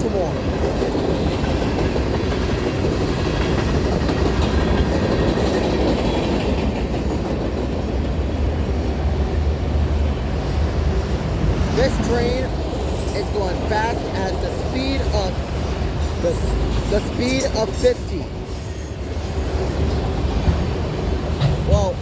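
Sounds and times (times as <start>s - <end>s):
freight train cars passing: 0.0s - 22.0s.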